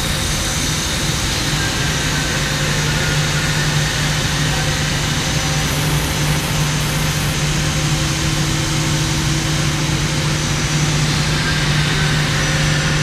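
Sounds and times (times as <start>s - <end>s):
lathe running with steady hum: 0.1s - 13.0s.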